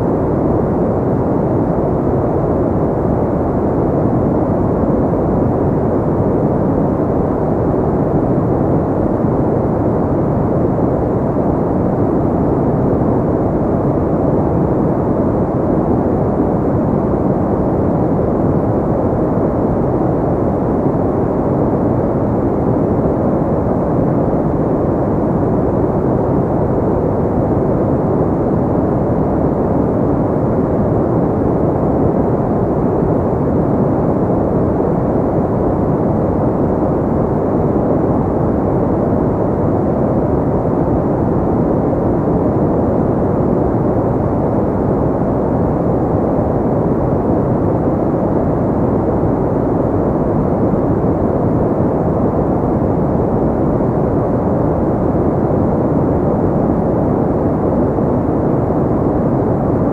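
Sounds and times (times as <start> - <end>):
deep rumbling white noise: 0.0 - 59.9.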